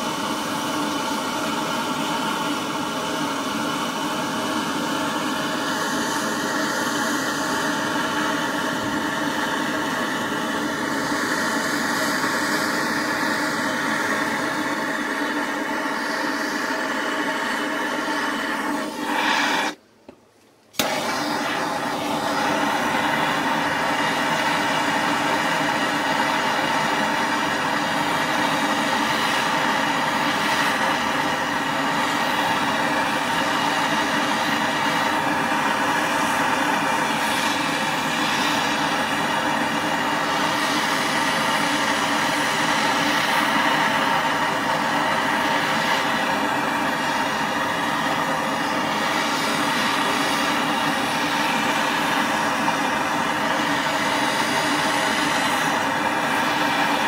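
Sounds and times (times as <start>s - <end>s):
gas torch roaring: 0.0s - 19.8s, 20.7s - 57.0s.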